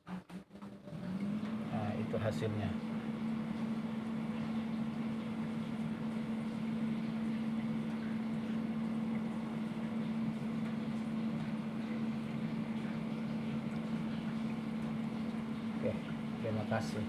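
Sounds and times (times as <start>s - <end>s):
mist machine humming: 0.0s - 17.0s.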